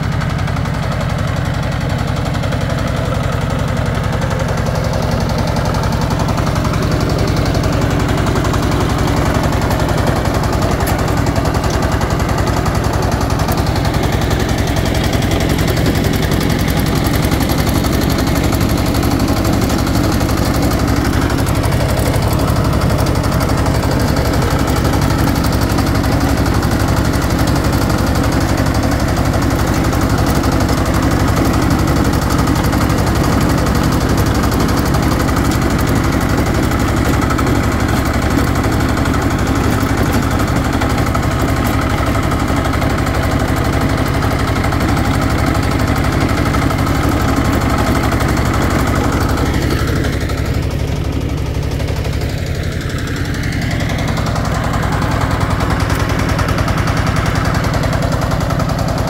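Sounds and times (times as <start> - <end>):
diesel tiller engine running: 0.0 - 59.0
rotary tiller churning soil: 0.0 - 59.0.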